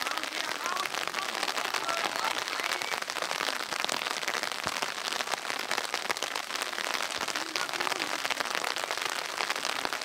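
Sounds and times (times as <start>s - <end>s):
rain pattering: 0.0s - 10.0s.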